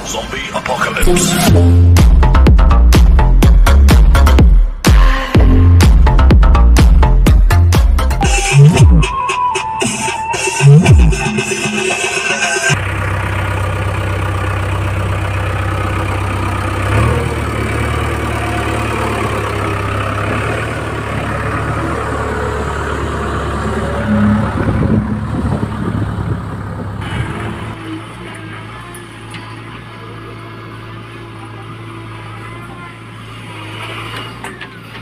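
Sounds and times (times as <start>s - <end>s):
heavy machinery diesel engine: 0.0s - 4.5s, 5.3s - 35.0s.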